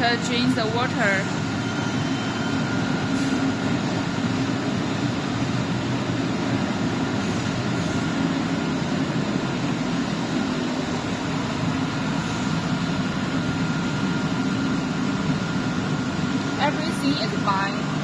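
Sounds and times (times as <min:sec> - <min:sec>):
dehumidifier humming: 0:00.0 - 0:18.0
faint high whine: 0:00.0 - 0:18.0.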